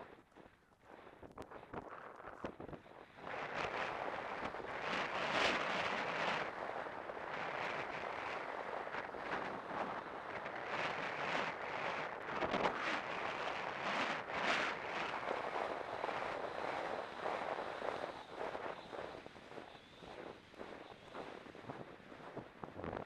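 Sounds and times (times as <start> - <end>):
wind buffeting microphone: 1.3 - 23.0.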